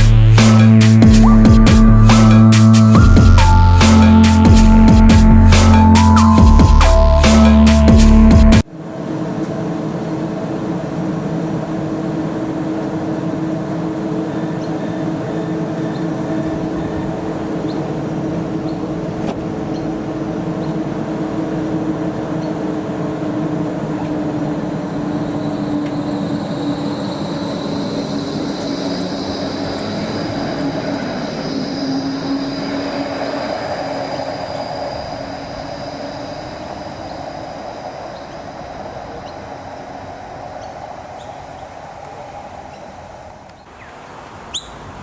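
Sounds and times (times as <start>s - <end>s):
low motor hum: 0.0s - 8.6s, 9.4s - 42.7s
high-pitched whine: 0.0s - 8.7s, 9.4s - 43.5s
tram rolling rumble: 0.0s - 43.6s.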